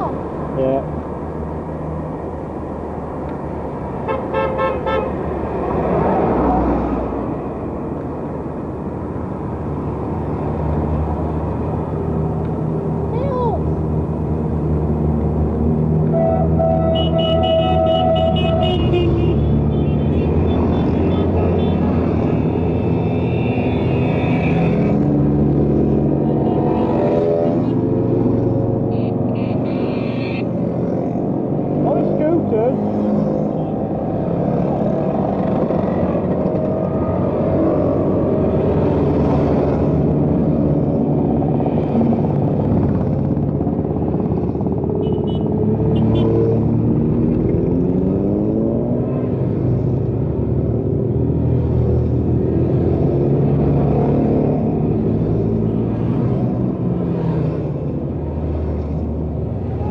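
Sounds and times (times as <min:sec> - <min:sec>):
motorcycle engines revving: 0:09.5 - 0:59.9.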